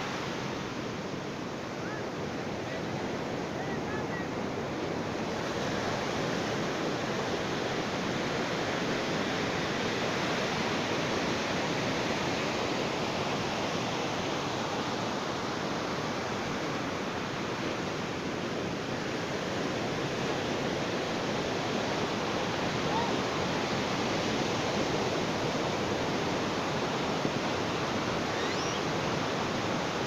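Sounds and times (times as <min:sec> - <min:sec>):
ocean waves on a beach: 0:00.0 - 0:30.0.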